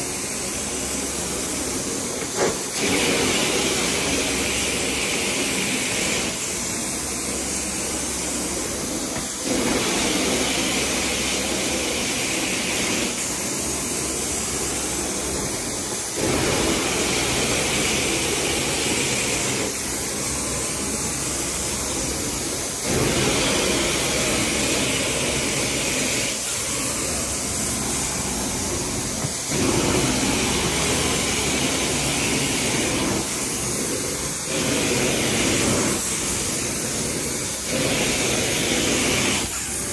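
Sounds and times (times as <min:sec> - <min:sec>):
carpet cleaning wand suction and hiss: 0:00.0 - 0:39.9.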